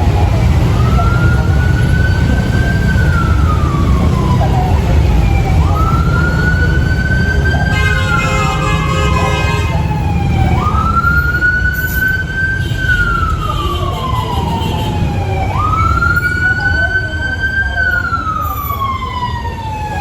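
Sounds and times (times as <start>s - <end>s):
fire truck siren wailing: 0.0s - 20.0s
steady siren tone: 0.0s - 20.0s.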